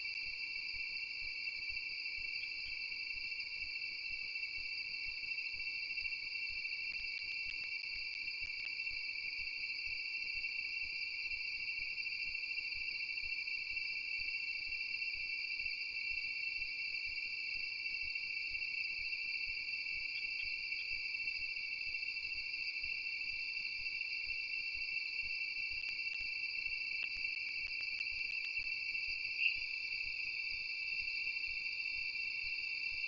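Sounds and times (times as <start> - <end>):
insects trilling: 0.0 - 33.0
loud insect chirp: 0.0 - 33.0.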